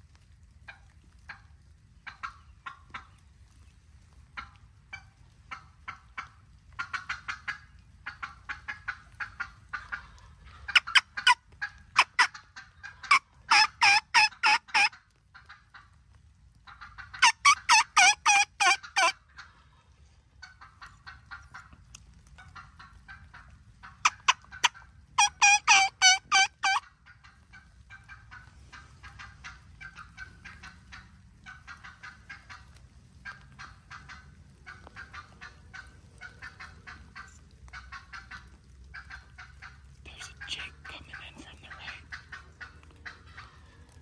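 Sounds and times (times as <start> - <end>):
wild turkeys calling: 0.6 - 3.6, 4.2 - 16.0, 16.6 - 44.0.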